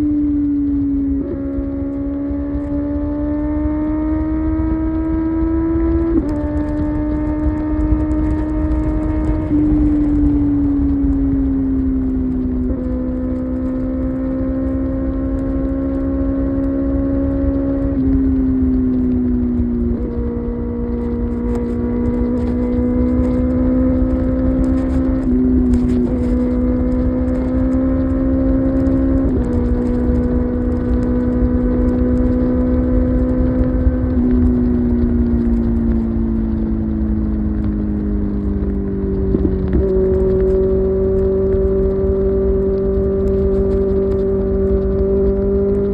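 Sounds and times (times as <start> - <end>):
motorcycle engine cruising: 0.0 - 45.9
wind noise: 0.0 - 45.9.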